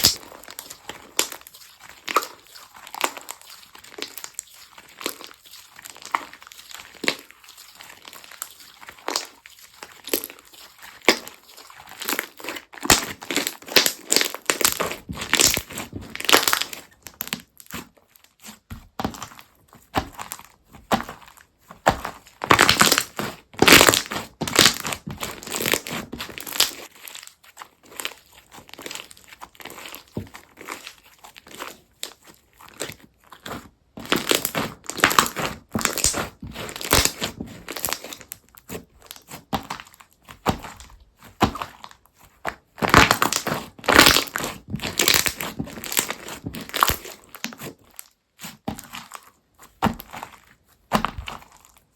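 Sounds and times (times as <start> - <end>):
slime crackling and popping: 0.0 - 51.9.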